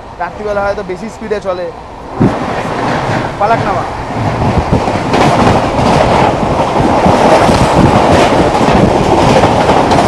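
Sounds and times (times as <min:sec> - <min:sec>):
passing train: 0:00.0 - 0:10.0
train rushing on rails: 0:00.0 - 0:10.0.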